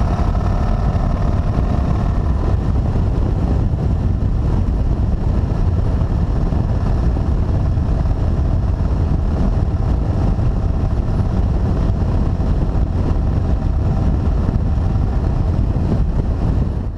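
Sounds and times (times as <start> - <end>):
motorcycle engine drone: 0.0 - 16.9
wind rushing over microphone: 0.0 - 16.9.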